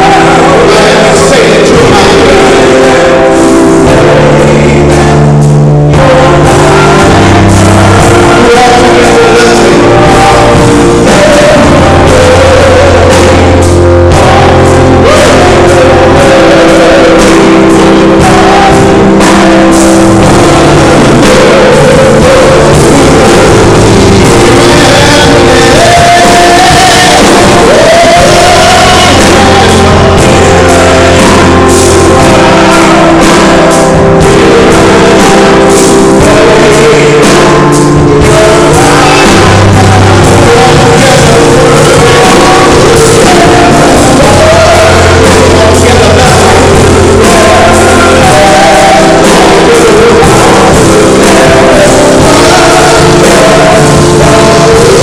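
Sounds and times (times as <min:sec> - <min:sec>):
held bass notes: 0:00.0 - 0:55.0
keyboard chords: 0:00.0 - 0:55.0
men singing gospel song: 0:00.0 - 0:55.0.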